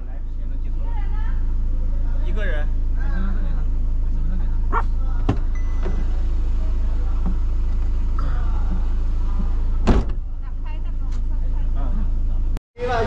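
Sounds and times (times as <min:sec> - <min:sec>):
motorhome engine idling: 0:00.0 - 0:13.0.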